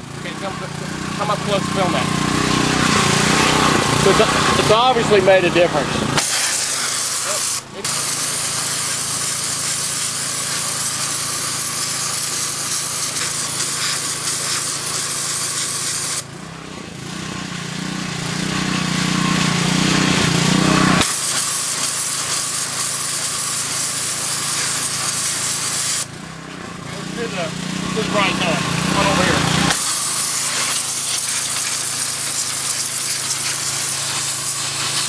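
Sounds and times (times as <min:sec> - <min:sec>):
high-pressure water jet hissing: 0:00.0 - 0:16.3, 0:18.4 - 0:26.2, 0:26.9 - 0:35.0.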